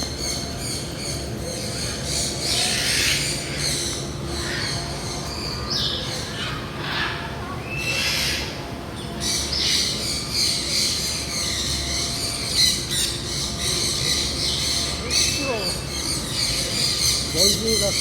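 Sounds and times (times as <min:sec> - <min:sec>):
chorus of bird chirps and squawks: 0:00.2 - 0:18.0.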